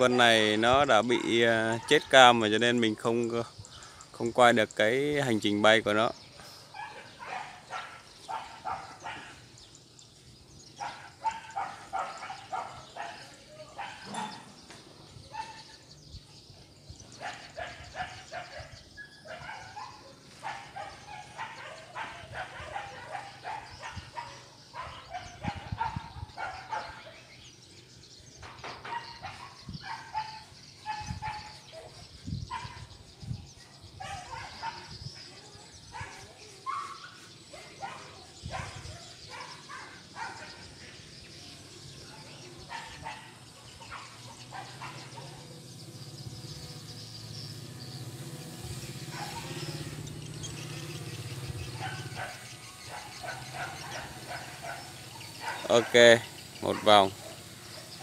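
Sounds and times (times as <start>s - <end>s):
dogs barking: 0.0s - 3.5s, 4.9s - 27.7s, 28.4s - 58.0s.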